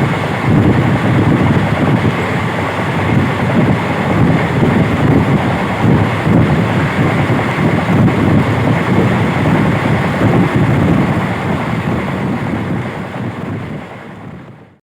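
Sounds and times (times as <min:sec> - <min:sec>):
moving train rumble: 0:00.0 - 0:14.7
wind buffeting microphone: 0:00.0 - 0:14.8.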